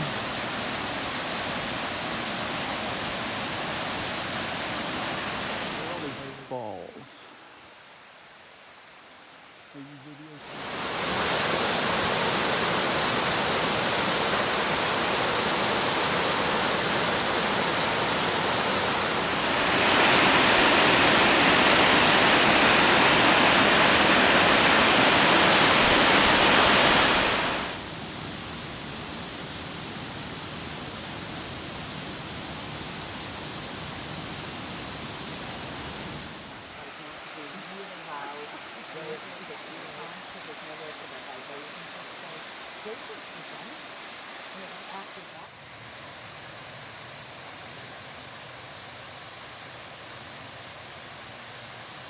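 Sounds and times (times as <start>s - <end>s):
waterfall water rushing: 0.0s - 7.2s, 10.2s - 52.0s.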